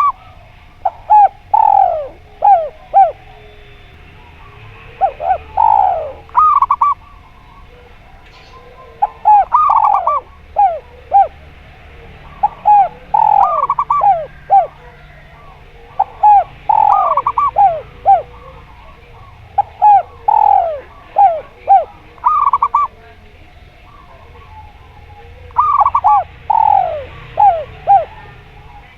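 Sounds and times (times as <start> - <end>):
doves cooing: 0.0 - 28.9.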